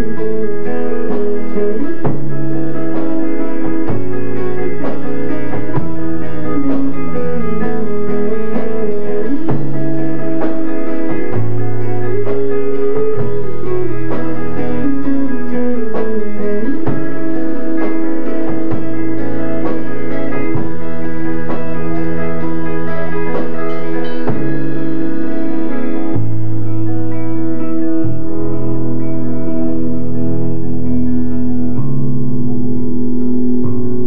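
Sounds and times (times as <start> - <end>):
bending lead guitar line: 0.0 - 34.0
rock band playing: 0.0 - 34.0.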